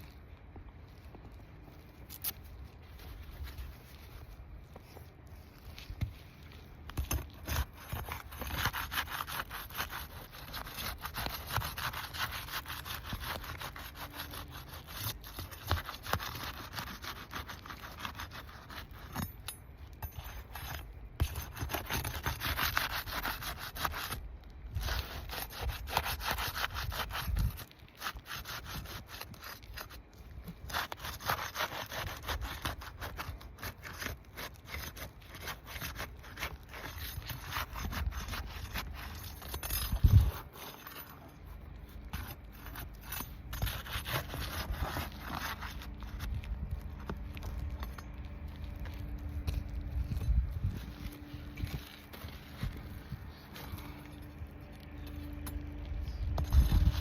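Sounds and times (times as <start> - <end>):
shingles scraping and rubbing: 1.0 - 57.0.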